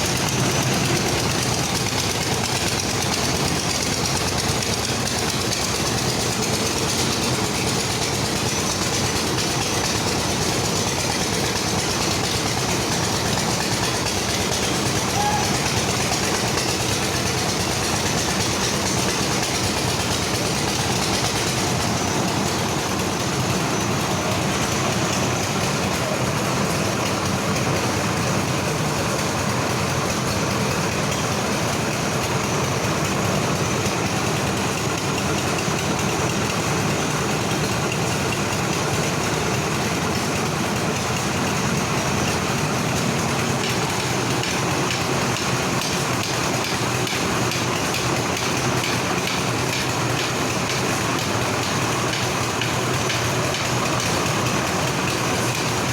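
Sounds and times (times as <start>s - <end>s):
mechanical running noise: 0.0s - 55.9s.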